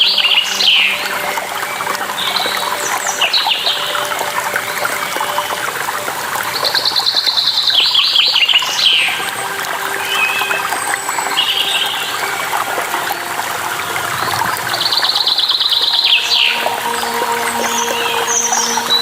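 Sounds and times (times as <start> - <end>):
songbird singing: 0.0 - 5.9, 6.5 - 19.0
running water: 0.0 - 19.0.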